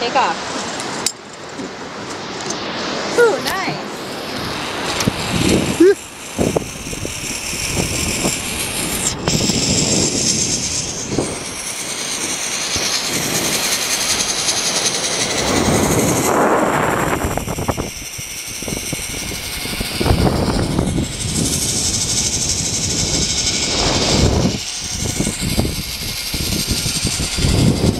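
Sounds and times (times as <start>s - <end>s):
zipline pulleys whirring on cable: 0.0s - 27.9s.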